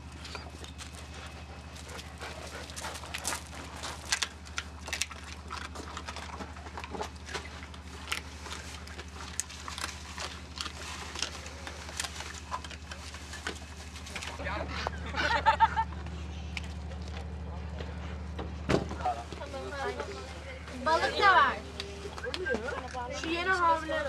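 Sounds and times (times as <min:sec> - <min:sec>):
dogs chewing food: 0:00.0 - 0:24.0
steady low hum: 0:00.0 - 0:24.0.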